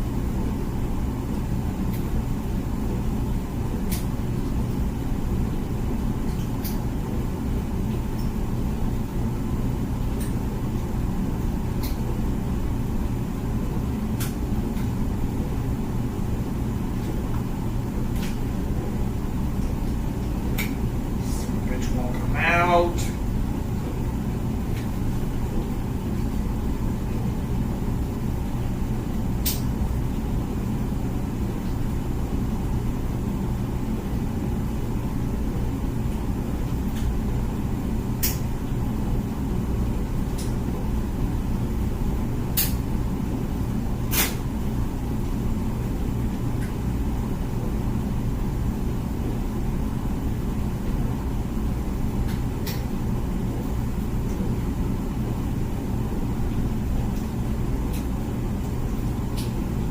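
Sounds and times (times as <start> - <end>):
dishwasher humming: 0.0 - 59.9.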